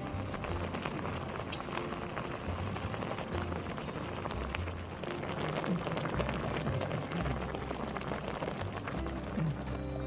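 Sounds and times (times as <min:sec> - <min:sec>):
camp stove burning: 0:00.0 - 0:10.0
hot pot bubbling: 0:00.0 - 0:10.0.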